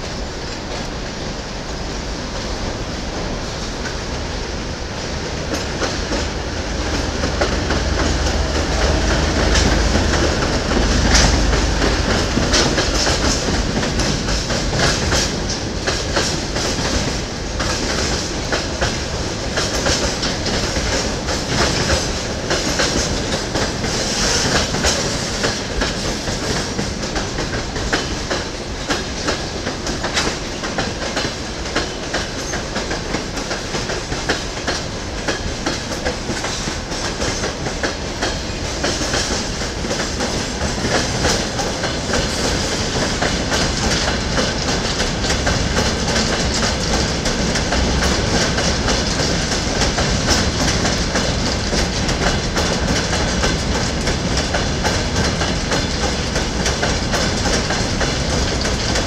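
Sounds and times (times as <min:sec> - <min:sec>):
train rolling rumble: 0:00.0 - 0:59.0
train wheels clicking over rail joints: 0:00.0 - 0:59.0.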